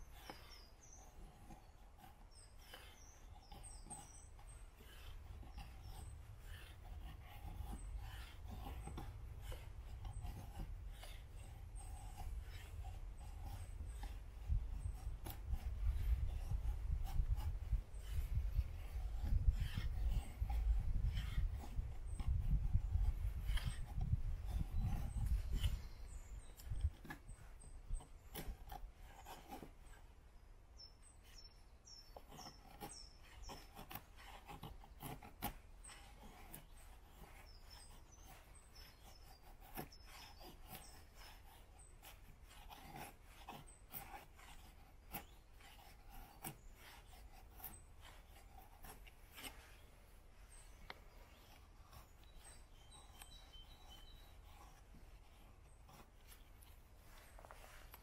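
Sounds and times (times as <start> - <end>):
faint rubbing and scraping: 0.0 - 58.0.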